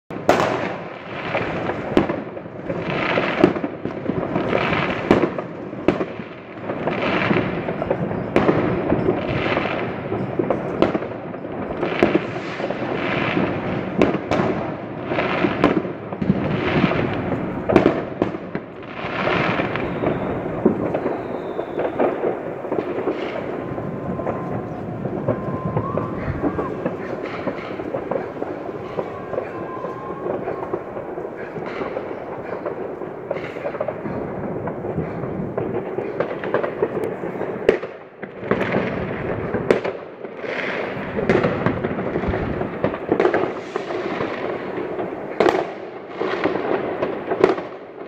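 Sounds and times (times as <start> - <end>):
distant fireworks crackling: 0.1 - 48.0
loud firework bangs: 0.1 - 48.0.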